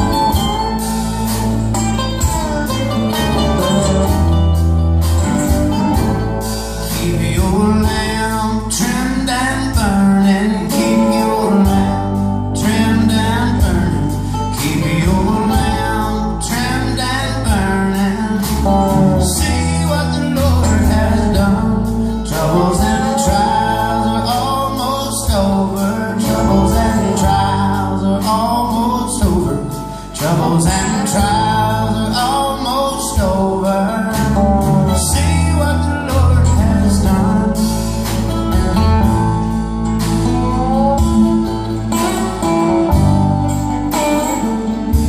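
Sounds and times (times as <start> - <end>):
bass: 0.0 - 45.0
drums: 0.0 - 45.0
mandolin: 0.0 - 45.0
strummed acoustic guitars: 0.0 - 45.0
person singing: 6.0 - 45.0.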